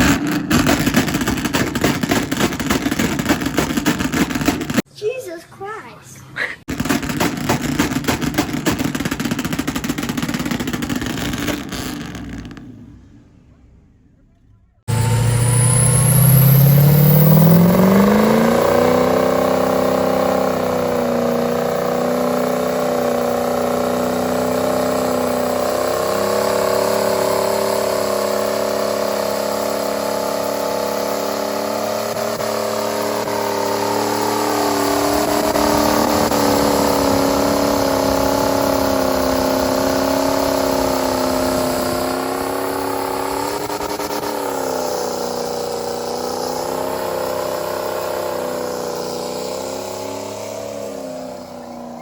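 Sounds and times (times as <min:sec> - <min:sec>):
truck engine revving: 0:00.0 - 0:04.9, 0:06.6 - 0:52.0.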